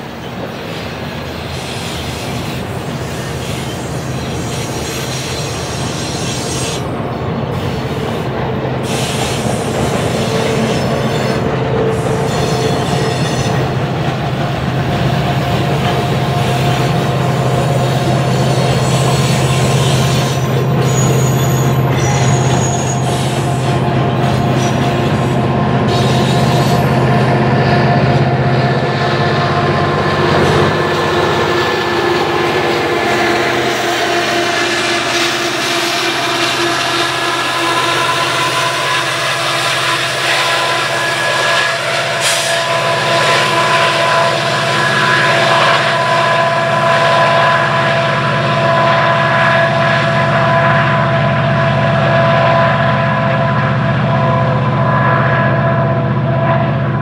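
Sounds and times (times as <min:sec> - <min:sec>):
train wheels squealing: 0:00.0 - 0:14.0, 0:14.8 - 0:52.5
diesel locomotive engine rumble: 0:00.0 - 0:57.0
freight train rumble and clatter: 0:00.0 - 0:57.0.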